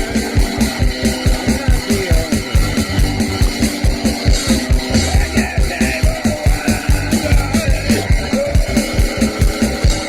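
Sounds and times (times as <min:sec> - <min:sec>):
instrumental rock music: 0:00.0 - 0:10.0
steady kick drum beat: 0:00.0 - 0:10.0.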